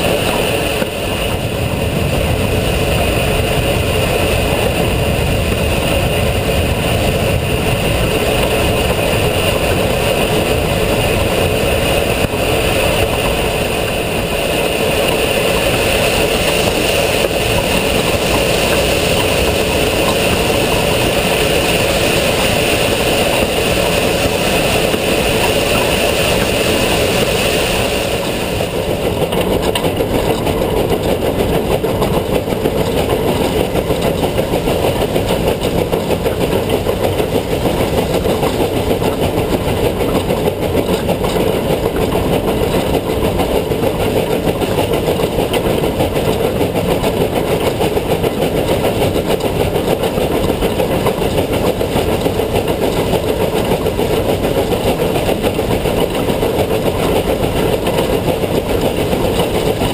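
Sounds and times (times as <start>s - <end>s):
steam locomotive wheels rumbling: 0.0s - 59.9s.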